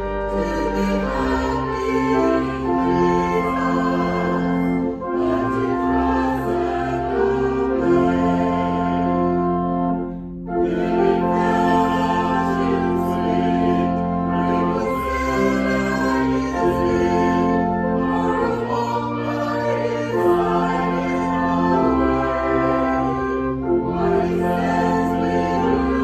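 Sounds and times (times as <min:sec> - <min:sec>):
choir singing a hymn: 0:00.0 - 0:26.0
instrumental accompaniment: 0:00.0 - 0:26.0.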